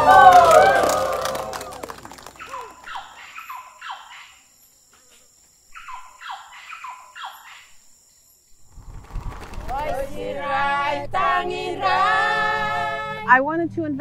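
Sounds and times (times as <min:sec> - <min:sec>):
high-pitched insect drone: 0:00.0 - 0:13.3.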